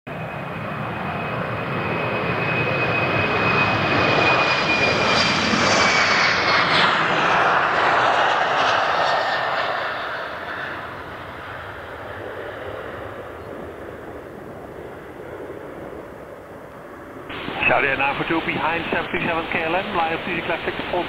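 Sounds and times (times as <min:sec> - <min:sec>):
high jet whine: 0:00.1 - 0:21.0
jet engines roaring: 0:00.1 - 0:21.0.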